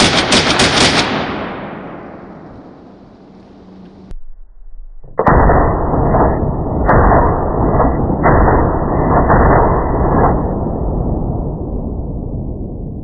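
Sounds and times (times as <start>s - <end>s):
rifle shot: 0.0s - 3.8s, 5.2s - 11.9s
dull drawn-out blast: 0.0s - 13.0s.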